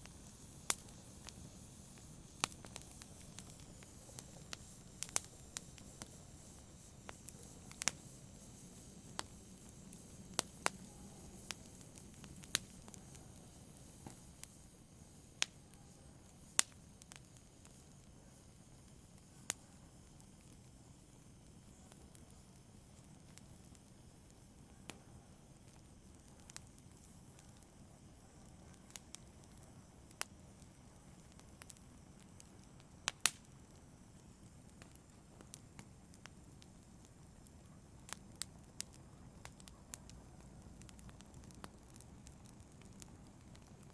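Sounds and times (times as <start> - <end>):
fire popping: 0.0 - 43.9
wood fire crackling: 0.0 - 43.9.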